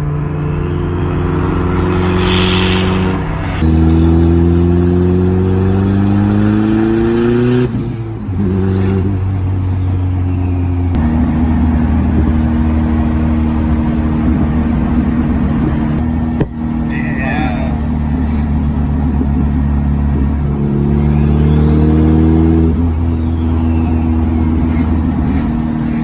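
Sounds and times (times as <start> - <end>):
car engine accelerating: 0.0 - 17.0, 17.7 - 26.0.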